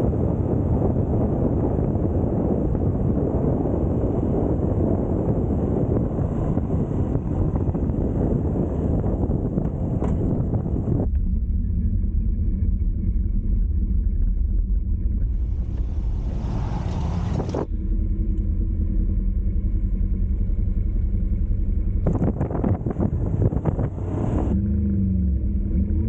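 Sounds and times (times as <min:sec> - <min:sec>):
wind noise on microphone: 0:00.0 - 0:18.2, 0:19.8 - 0:24.6
road rumble: 0:00.0 - 0:26.0
vehicle engine running: 0:00.0 - 0:26.0.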